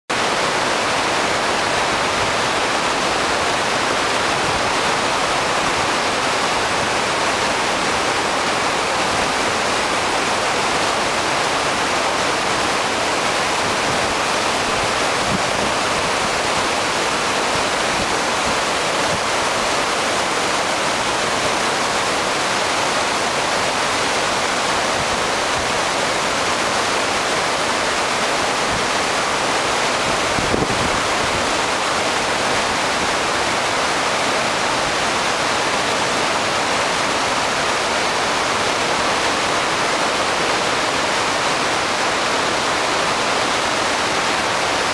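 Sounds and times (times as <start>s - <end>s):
river rapids rushing over rocks: 0.1s - 44.9s.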